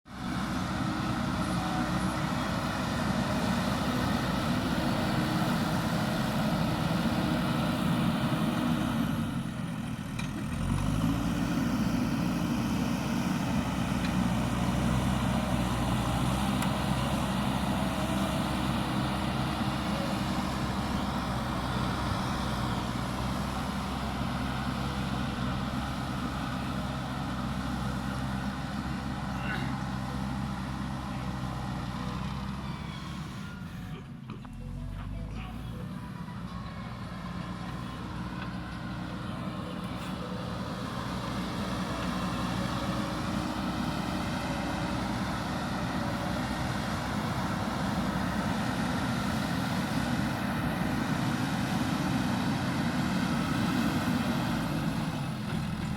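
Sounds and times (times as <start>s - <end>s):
diesel engine running under work: 0.1s - 55.9s.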